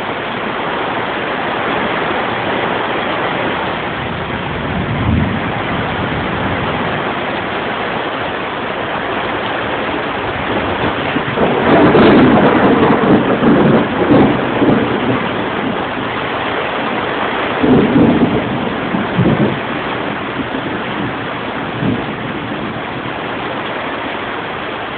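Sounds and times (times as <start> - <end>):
steady rain falling: 0.0 - 24.9
thunder rumbling: 0.0 - 24.9.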